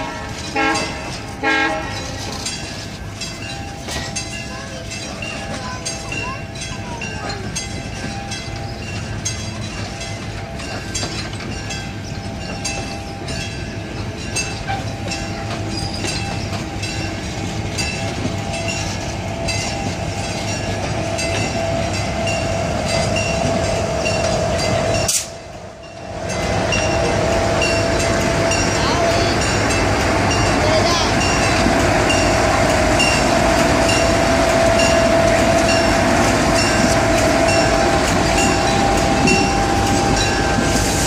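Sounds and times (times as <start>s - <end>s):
wheels clicking over rail joints: 0.0s - 40.8s
diesel locomotive engine: 0.0s - 41.0s.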